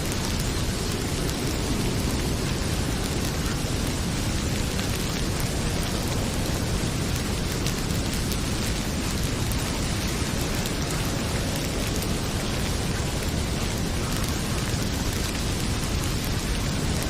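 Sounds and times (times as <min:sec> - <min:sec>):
heavy rain pouring: 0:00.0 - 0:17.0
wood fire crackling: 0:00.0 - 0:17.0.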